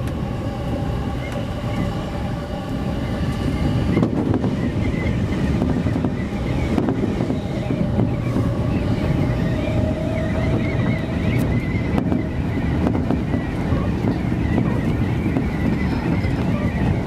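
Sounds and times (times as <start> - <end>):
faint wavering whine: 0.0 - 17.0
train wheels rumbling on rail: 0.0 - 17.0.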